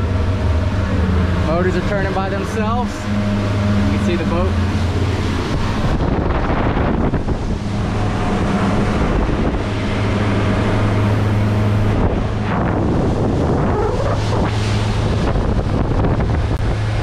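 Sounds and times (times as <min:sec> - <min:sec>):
outboard motors humming: 0:00.0 - 0:17.0
water rushing past hull: 0:00.0 - 0:17.0
wind buffeting microphone: 0:00.0 - 0:17.0.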